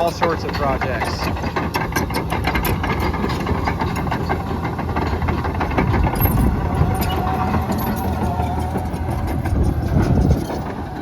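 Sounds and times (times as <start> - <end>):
diesel engine under load: 0.0 - 11.0
steel tracks clanking and rattling: 0.0 - 11.0.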